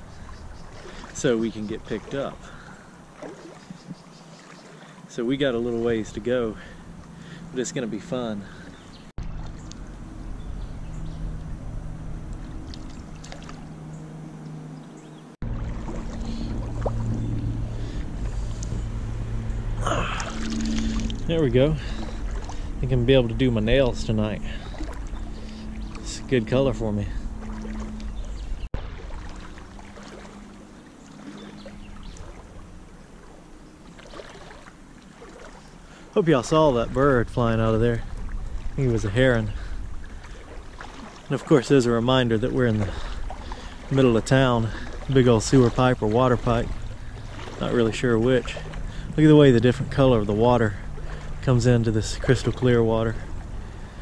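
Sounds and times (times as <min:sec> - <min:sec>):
creek water running: 0:00.0 - 0:54.0
low hum: 0:00.0 - 0:54.0.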